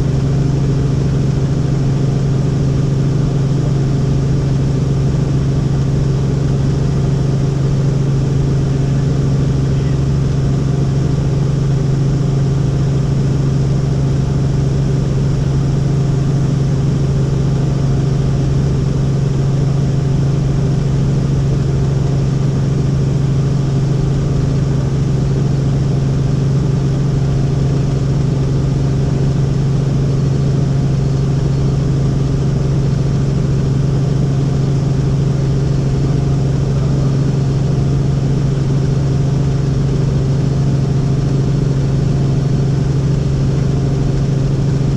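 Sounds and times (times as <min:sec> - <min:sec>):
helicopter drone: 0:00.0 - 0:44.9.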